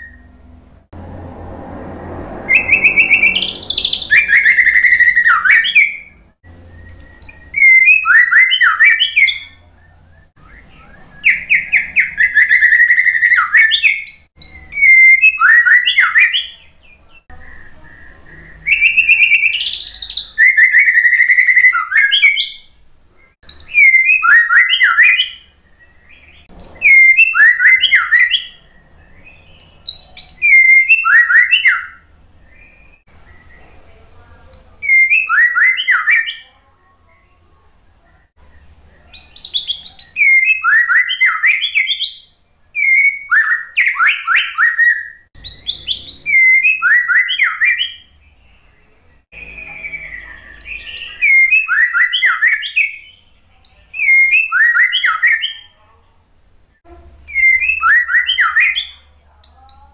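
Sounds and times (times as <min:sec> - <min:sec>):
bird singing whistles and trills: 0:00.0 - 0:00.4, 0:02.5 - 0:36.6, 0:38.5 - 0:55.8, 0:57.2 - 0:59.9.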